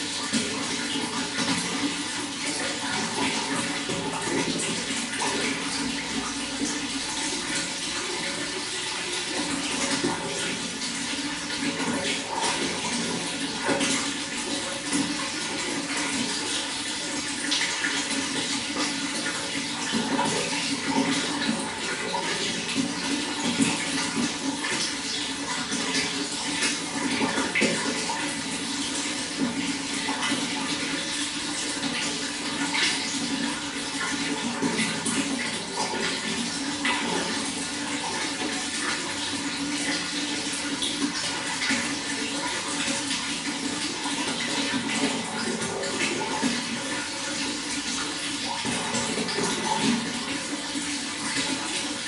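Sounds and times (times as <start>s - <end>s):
running water splashing: 0.0s - 52.0s.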